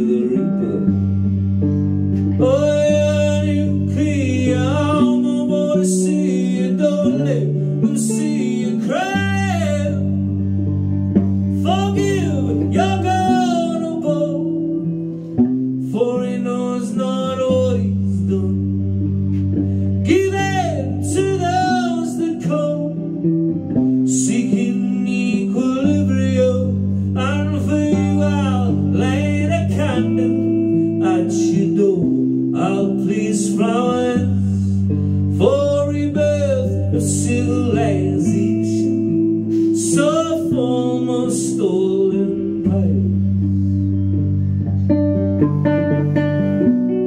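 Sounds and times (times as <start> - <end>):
man singing: 0.0 - 1.5, 2.1 - 10.8, 11.4 - 44.0
electric guitar chords: 0.0 - 47.0.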